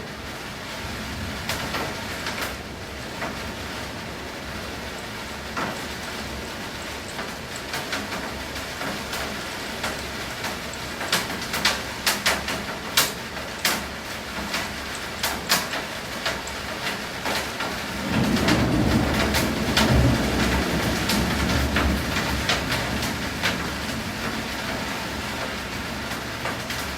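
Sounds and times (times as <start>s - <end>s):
rain drops on a hard surface: 0.0s - 26.9s.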